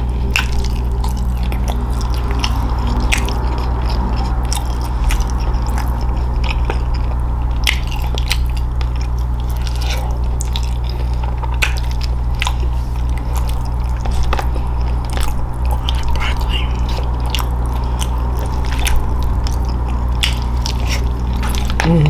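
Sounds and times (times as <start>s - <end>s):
crunching and chewing: 0.0s - 22.0s
steady low hum: 0.0s - 22.0s.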